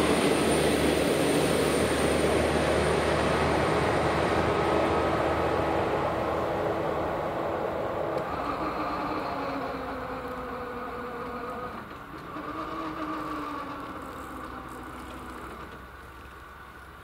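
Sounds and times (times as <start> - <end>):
barrier arms mechanical hum: 0.0 - 15.9.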